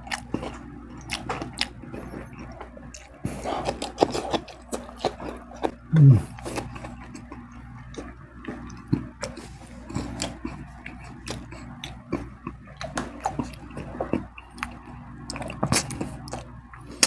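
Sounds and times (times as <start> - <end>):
chewing with mouth closed: 0.0 - 17.0
steady low hum: 0.0 - 17.0.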